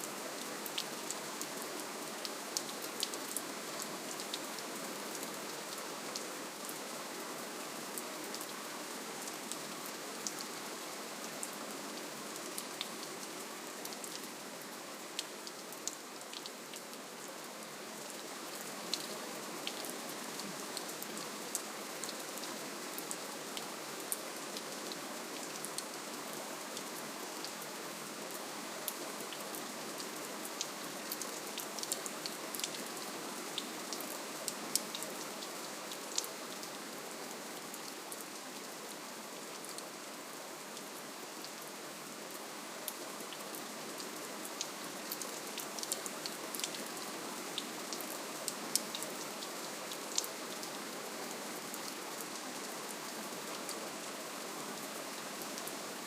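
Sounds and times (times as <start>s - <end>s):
gentle rain patter: 0.0s - 56.0s.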